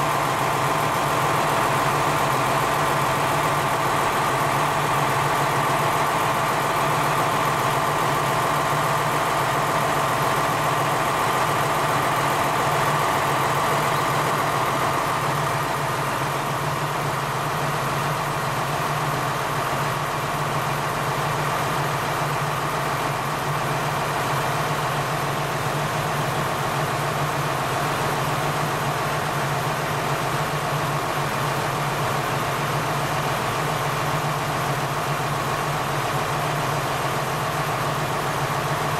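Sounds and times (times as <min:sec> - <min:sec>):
diesel railcar engine idling: 0:00.0 - 0:38.9.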